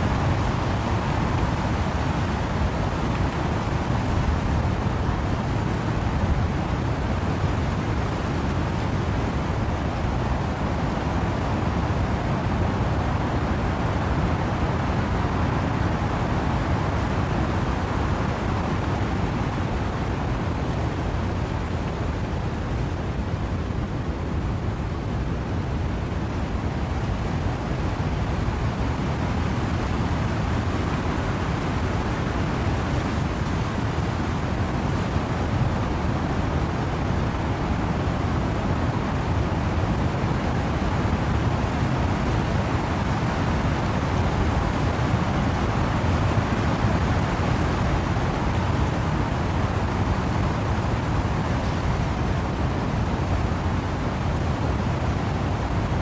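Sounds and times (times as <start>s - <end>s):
wind and rain in trees: 0.0s - 56.0s.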